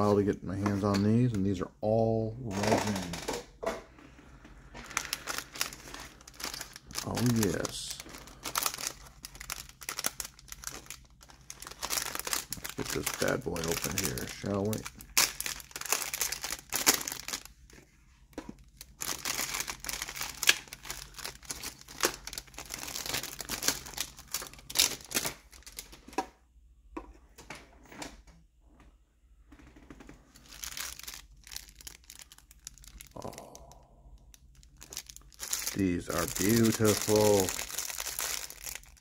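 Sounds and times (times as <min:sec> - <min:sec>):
plastic bags crinkling: 0:02.5 - 0:03.4, 0:04.3 - 0:26.2, 0:30.2 - 0:39.0.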